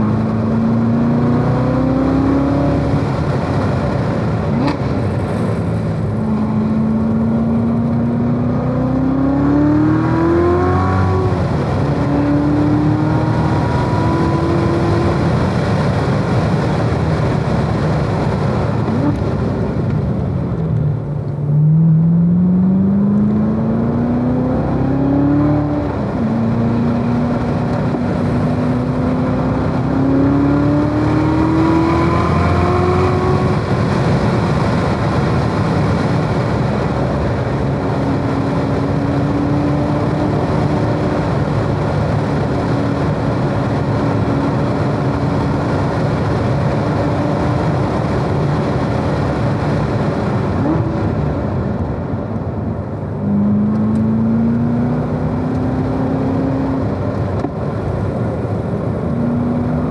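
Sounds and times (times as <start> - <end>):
car engine at speed: 0.0 - 59.9.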